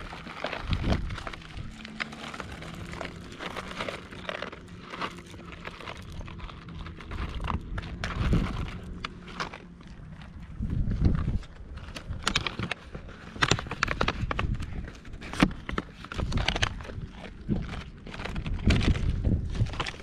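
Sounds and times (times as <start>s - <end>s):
rustling and crinkling: 0.0s - 20.0s.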